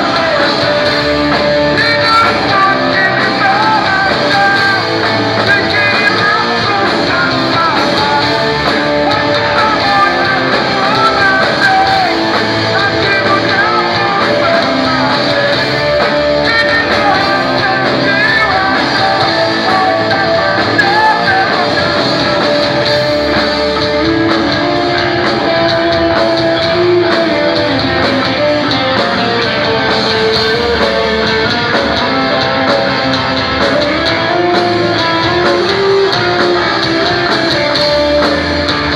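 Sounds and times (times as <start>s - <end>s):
electric guitars: 0.0s - 38.9s
live rock band playing: 0.0s - 38.9s
person singing: 0.0s - 38.9s.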